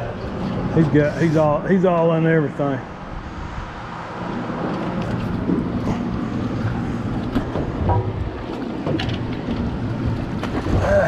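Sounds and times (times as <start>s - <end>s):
wind and water rumble: 0.0s - 11.0s.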